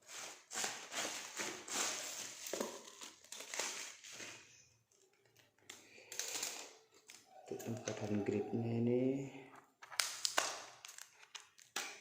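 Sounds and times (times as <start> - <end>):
plastic packaging crinkling: 0.1 - 8.3, 9.7 - 12.0.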